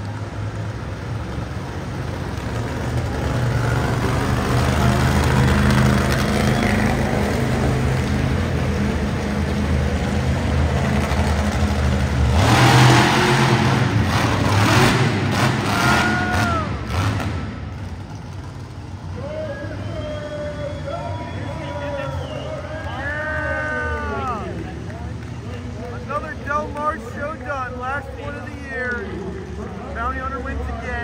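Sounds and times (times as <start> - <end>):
monster truck engine running: 0.0 - 31.0.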